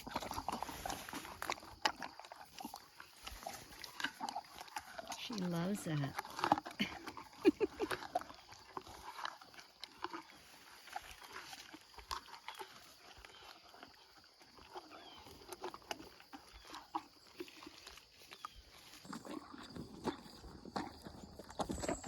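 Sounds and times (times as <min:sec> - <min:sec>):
horse chewing an apple: 0:00.0 - 0:22.0.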